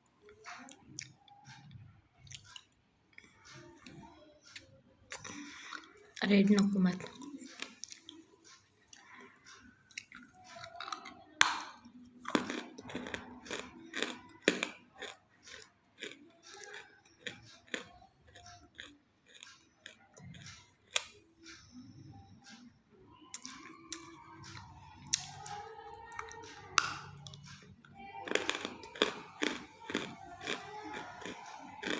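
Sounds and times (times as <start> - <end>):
crunching and chewing: 0.2 - 22.7, 23.3 - 31.9.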